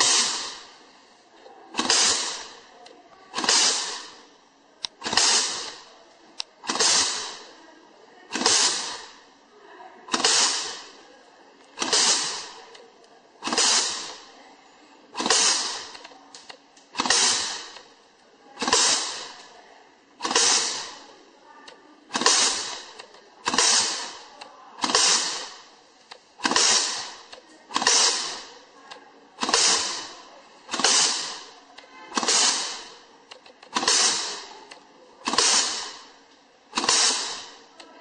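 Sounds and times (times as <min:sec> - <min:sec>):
wire crimping machine cracking: 0:00.0 - 0:00.8, 0:01.7 - 0:07.6, 0:08.3 - 0:09.3, 0:10.1 - 0:11.0, 0:11.6 - 0:14.4, 0:15.1 - 0:18.0, 0:18.6 - 0:19.6, 0:20.2 - 0:38.0.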